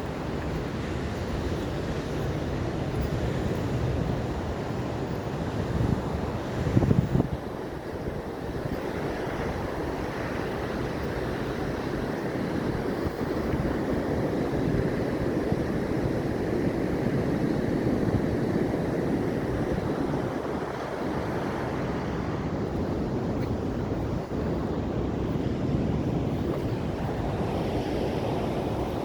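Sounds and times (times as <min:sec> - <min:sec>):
ocean surf washing onto shore: 0:00.0 - 0:29.0.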